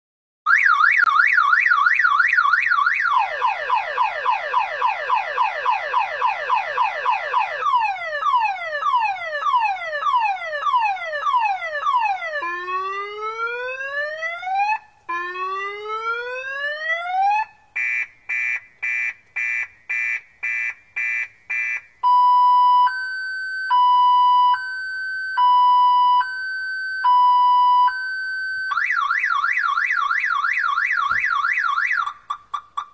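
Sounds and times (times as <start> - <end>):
car alarm siren: 0.5 - 32.9.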